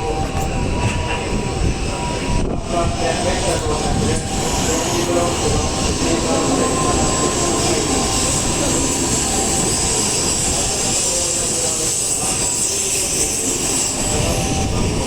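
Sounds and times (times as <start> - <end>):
high even whine: 0.0 - 15.0
train running past: 0.0 - 15.0.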